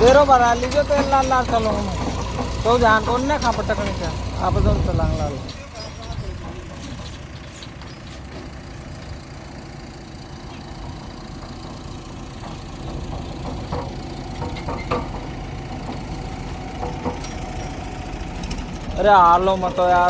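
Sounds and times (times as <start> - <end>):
short knocks and clatters: 0.0 - 9.2, 10.4 - 20.0
diesel engine idling: 0.0 - 20.0.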